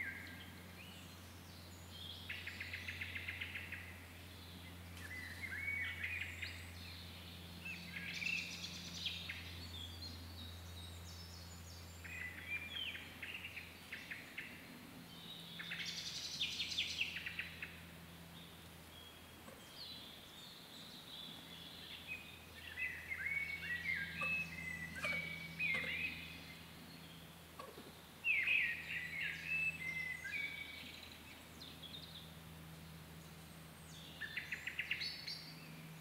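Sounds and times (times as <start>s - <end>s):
small songbirds chirping: 0.0s - 36.0s
steady low hum: 0.0s - 36.0s.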